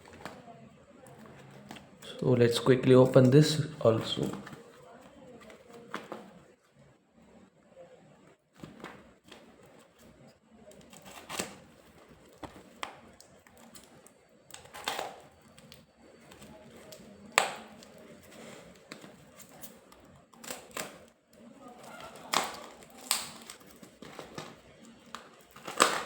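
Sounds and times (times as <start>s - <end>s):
packaging crinkling and rustling: 0.0s - 6.6s, 8.5s - 26.0s.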